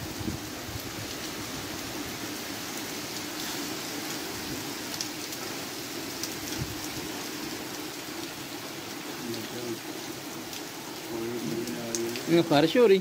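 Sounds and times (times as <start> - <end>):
heavy rain on muddy ground: 0.0 - 13.0
water drips and splashes: 0.0 - 13.0.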